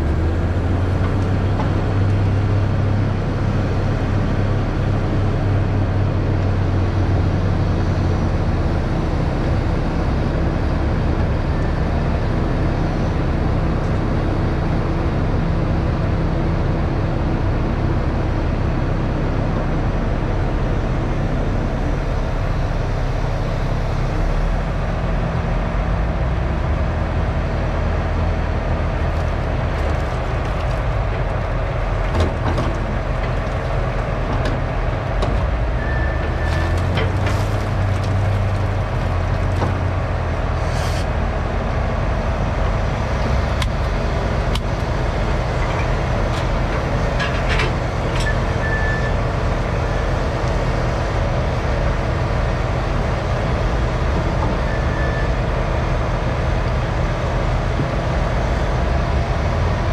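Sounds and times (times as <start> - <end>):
diesel machinery running: 0.0 - 59.9.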